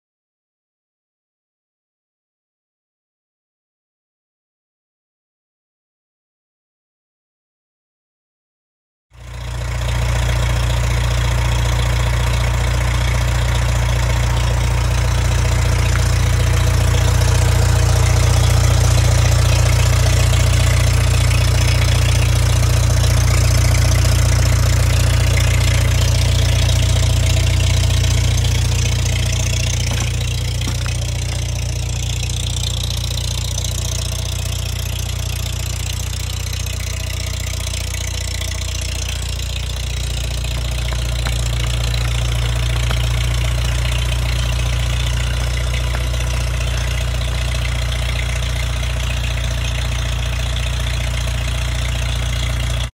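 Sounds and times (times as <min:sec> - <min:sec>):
tractor engine idling: 0:09.2 - 0:52.9.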